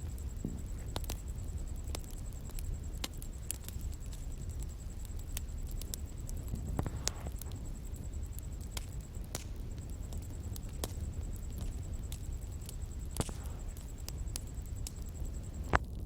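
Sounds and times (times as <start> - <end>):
bonfire crackling and popping: 0.0 - 16.0
low rumble of burning wood: 0.0 - 16.0.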